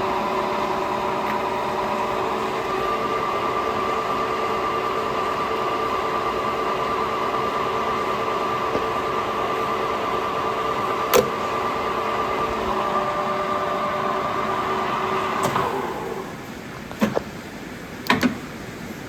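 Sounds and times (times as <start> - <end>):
lathe humming and gear whine: 0.0 - 17.2.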